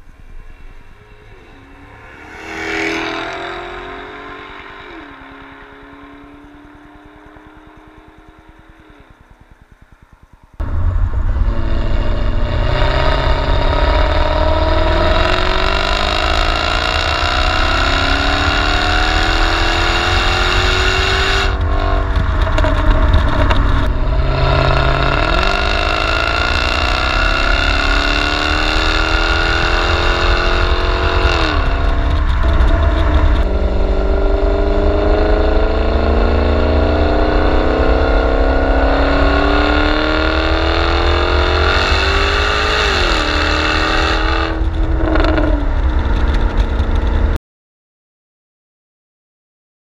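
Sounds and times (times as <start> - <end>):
car engine revving: 0.0 - 47.4
road and wind noise: 0.0 - 47.4.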